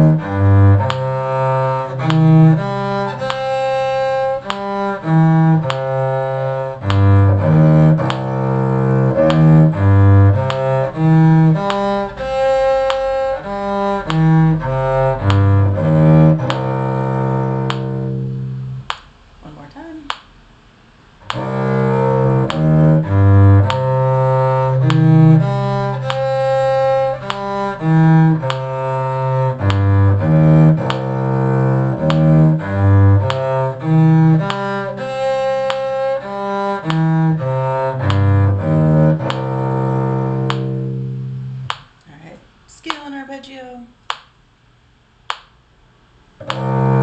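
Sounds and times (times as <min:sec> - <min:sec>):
bowed cello arpeggio: 0:00.0 - 0:18.9, 0:21.2 - 0:41.8, 0:46.4 - 0:47.0
low sustained note: 0:00.0 - 0:18.9, 0:21.3 - 0:41.7.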